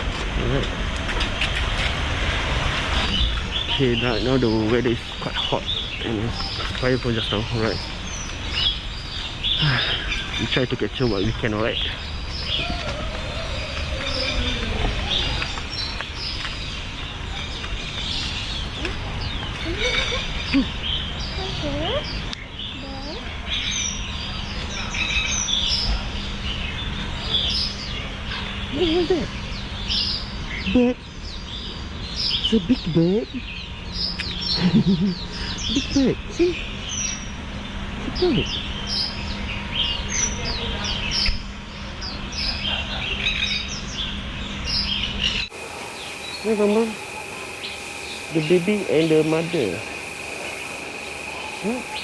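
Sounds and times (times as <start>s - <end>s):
birds chirping and twittering: 0.0s - 52.0s
faint hum: 0.0s - 52.0s.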